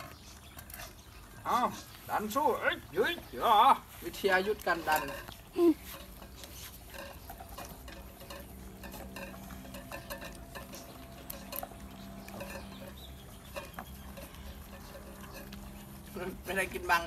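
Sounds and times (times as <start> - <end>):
puppies lapping from bowls: 0.0 - 17.0.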